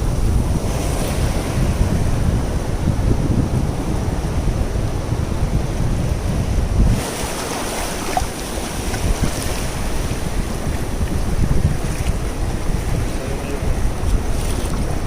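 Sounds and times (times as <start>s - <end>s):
sea surf breaking on beach: 0.0s - 15.0s
wind buffeting microphone: 0.0s - 15.0s.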